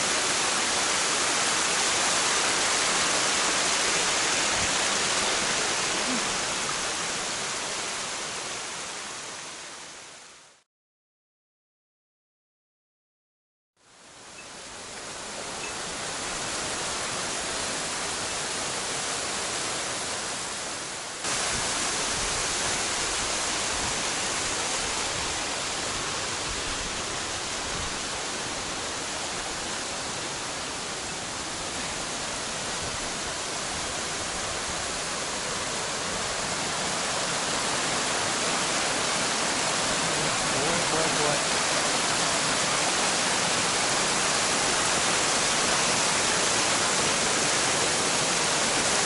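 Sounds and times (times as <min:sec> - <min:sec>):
mountain stream over rocks: 0:00.0 - 0:10.6, 0:13.9 - 0:49.0.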